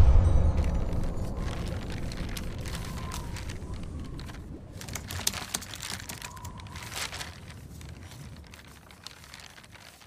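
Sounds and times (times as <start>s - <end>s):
paper rustling and crinkling: 0.5s - 10.0s.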